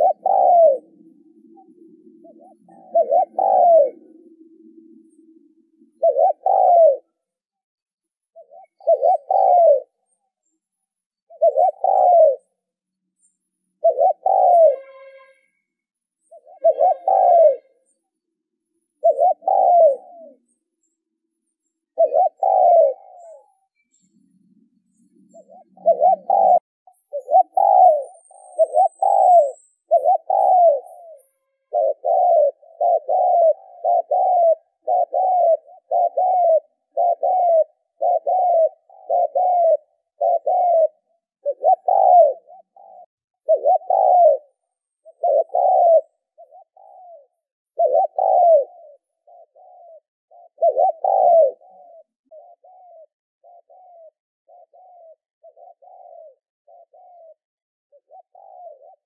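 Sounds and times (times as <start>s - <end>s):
dove cooing: 0.0s - 7.3s, 8.3s - 10.2s, 11.2s - 12.7s, 13.8s - 15.2s, 16.2s - 18.0s, 19.0s - 20.9s, 21.9s - 59.0s.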